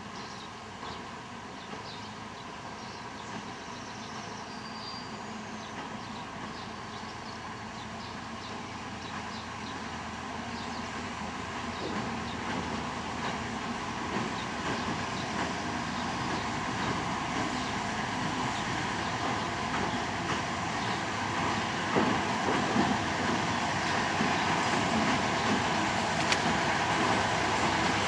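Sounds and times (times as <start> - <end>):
diesel locomotive engine running: 0.0 - 28.0
train wheels rumbling on bridge: 0.0 - 28.0.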